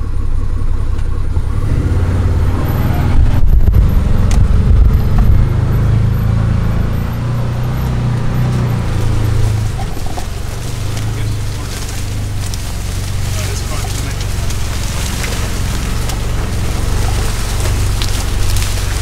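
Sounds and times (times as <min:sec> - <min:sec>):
utility vehicle engine droning: 0:00.0 - 0:19.0.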